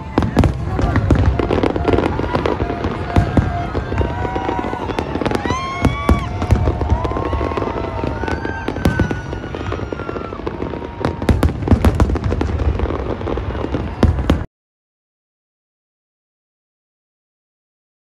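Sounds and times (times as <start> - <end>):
fireworks bangs and crackling: 0.0 - 14.5
fireworks whistling: 0.0 - 14.5.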